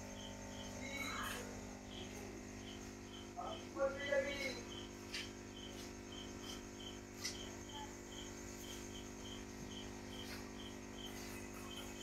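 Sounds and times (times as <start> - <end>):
air pump humming: 0.0 - 12.0
cricket chirping: 0.0 - 12.0.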